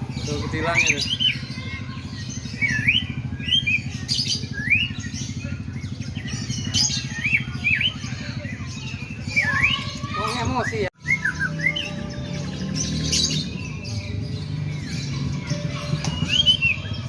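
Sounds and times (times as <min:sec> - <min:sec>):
bird singing whistled notes: 0:02.5 - 0:17.0.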